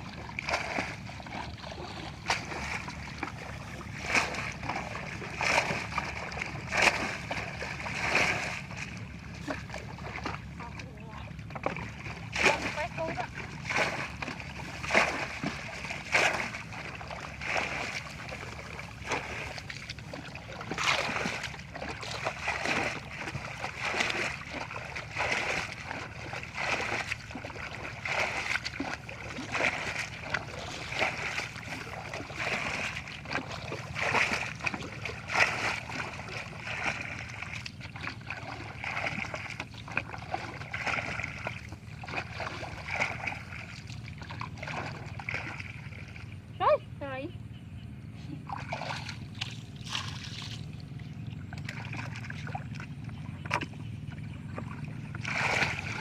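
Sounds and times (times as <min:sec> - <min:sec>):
steady low rumble: 0:00.0 - 0:56.0
water splashing and sloshing: 0:00.0 - 0:56.0.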